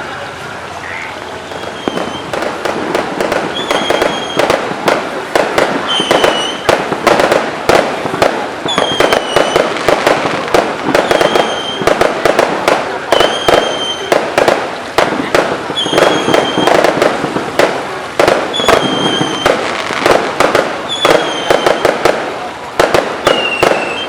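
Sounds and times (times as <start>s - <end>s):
fireworks bangs and crackling pops: 1.1s - 24.0s.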